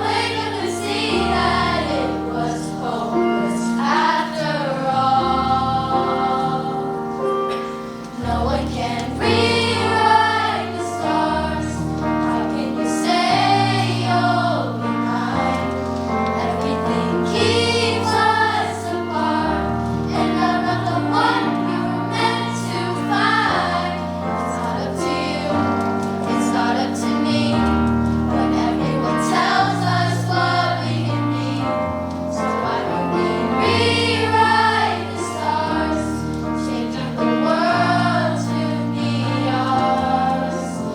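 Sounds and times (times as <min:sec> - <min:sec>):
backing music: 0:00.0 - 0:40.9
children's choir singing: 0:00.0 - 0:40.9.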